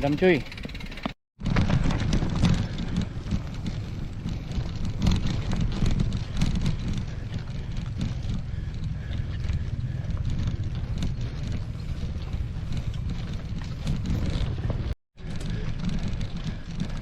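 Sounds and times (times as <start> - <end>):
bike rattling and knocking: 0.0 - 17.0
wind buffeting microphone: 0.2 - 17.0.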